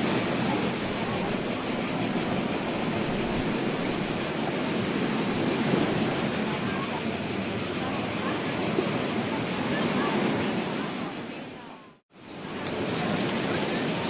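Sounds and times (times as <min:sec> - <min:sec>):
ocean waves washing on beach: 0:00.0 - 0:14.0.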